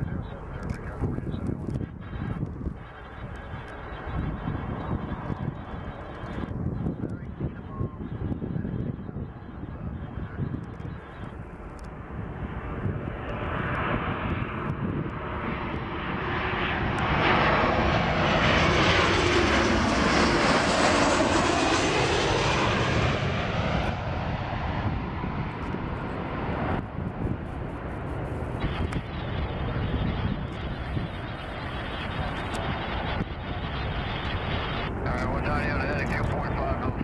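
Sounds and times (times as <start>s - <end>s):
jet airliner roar overhead: 0.0s - 37.0s.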